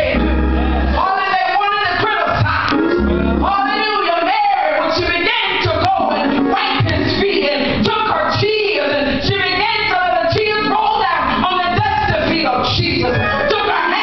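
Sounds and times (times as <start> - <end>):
background music: 0.0 - 14.0
woman singing into microphone: 0.9 - 14.0.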